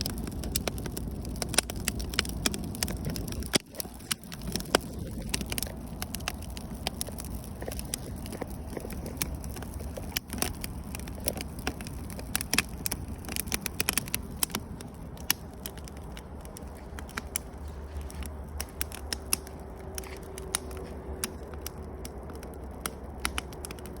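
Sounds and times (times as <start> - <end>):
campfire snaps and pops: 0.0 - 24.0
steady low rumble: 0.0 - 24.0.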